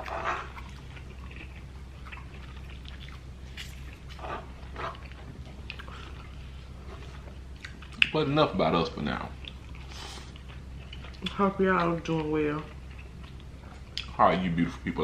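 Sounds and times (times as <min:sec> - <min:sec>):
chewing and wet mouth noises: 0:00.0 - 0:14.2
steady low hum: 0:00.0 - 0:15.0.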